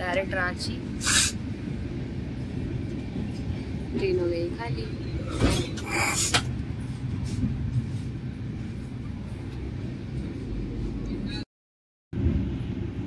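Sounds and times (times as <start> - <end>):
train rumble inside coach: 0.0 - 11.4, 12.2 - 13.0.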